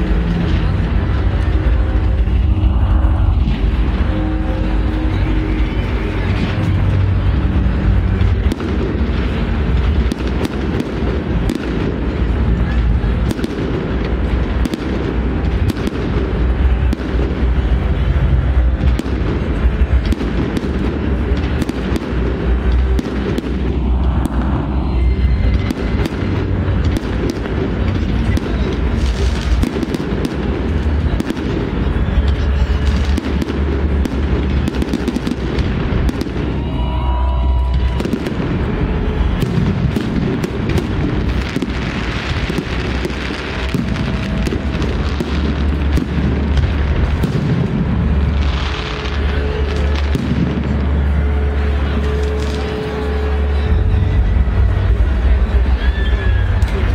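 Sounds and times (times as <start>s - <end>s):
deep fireworks booms: 0.0s - 55.8s
fireworks bangs and crackles: 0.0s - 56.9s.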